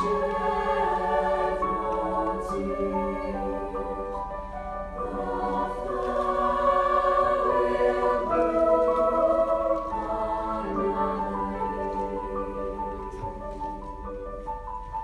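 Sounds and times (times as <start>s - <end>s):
choir singing chords: 0.0s - 14.1s
piano accompaniment: 0.0s - 15.0s.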